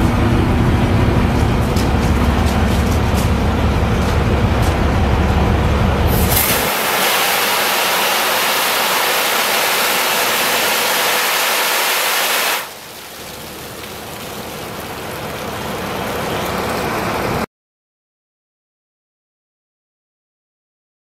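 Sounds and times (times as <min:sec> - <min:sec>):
water gushing and splashing: 0:00.0 - 0:17.5.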